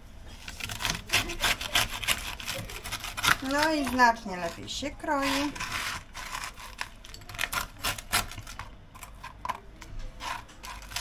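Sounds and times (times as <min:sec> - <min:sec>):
knife cutting tortillas: 0:00.3 - 0:11.0.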